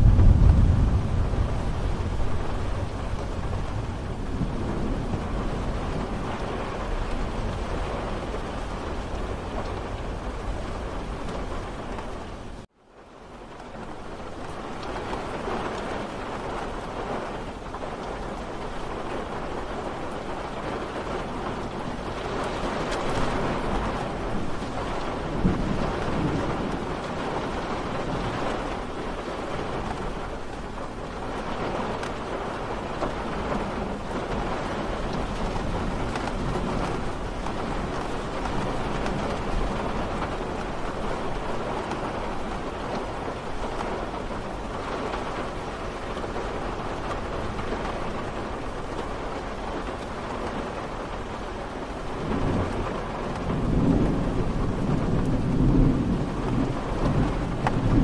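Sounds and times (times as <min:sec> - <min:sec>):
thunder rumbling: 0:00.0 - 0:12.7, 0:13.6 - 0:58.0
rain falling: 0:00.0 - 0:58.0.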